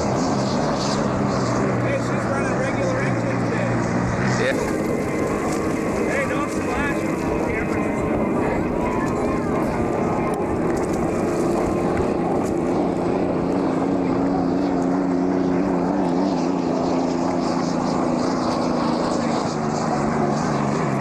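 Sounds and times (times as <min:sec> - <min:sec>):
race boat engines droning: 0:00.0 - 0:21.0.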